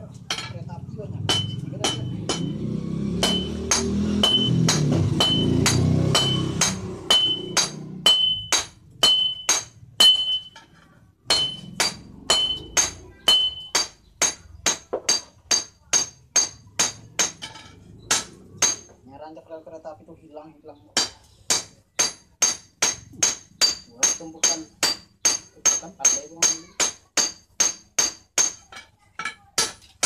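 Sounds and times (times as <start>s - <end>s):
hammer striking hot steel on anvil: 1.3s - 2.6s, 3.2s - 19.0s, 21.0s - 29.8s.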